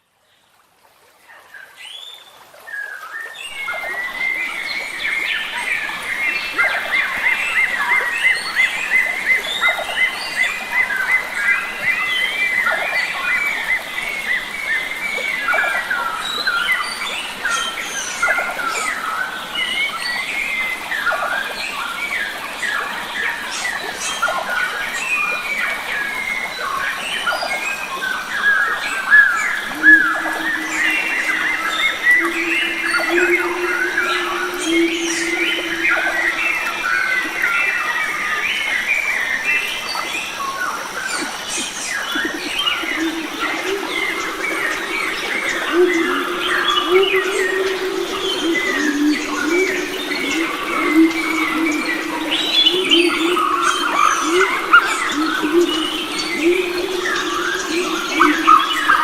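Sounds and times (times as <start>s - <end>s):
forest birds singing and calling: 1.5s - 59.0s.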